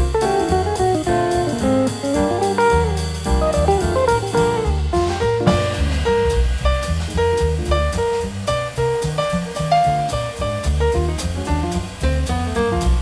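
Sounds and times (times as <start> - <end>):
bass line: 0.0 - 13.0
light drums: 0.0 - 13.0.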